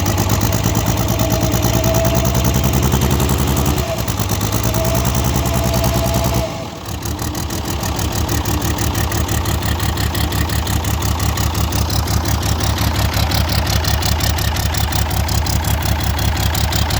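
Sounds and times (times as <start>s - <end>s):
diesel tractor engine idling: 0.0s - 16.9s.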